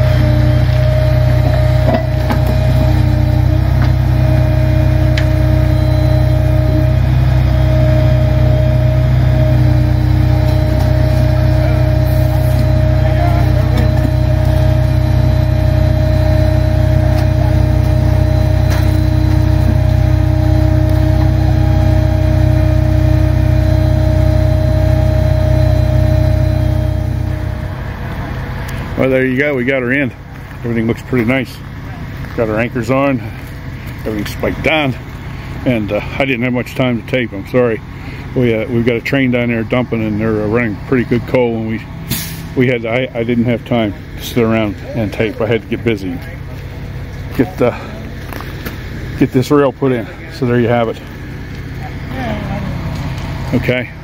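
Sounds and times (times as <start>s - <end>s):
truck engine rumble with whine: 0.0s - 54.0s.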